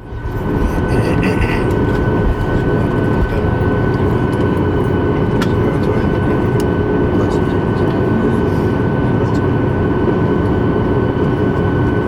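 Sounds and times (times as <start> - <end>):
high-pitched engine whine: 0.0 - 12.0
jet engines idling rumble: 0.0 - 12.0.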